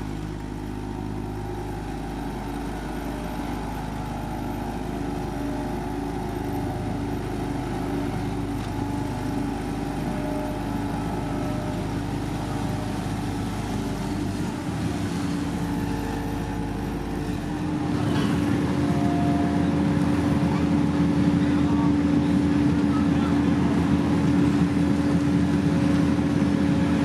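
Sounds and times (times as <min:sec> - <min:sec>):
heavy machinery engine running: 0:00.0 - 0:27.0.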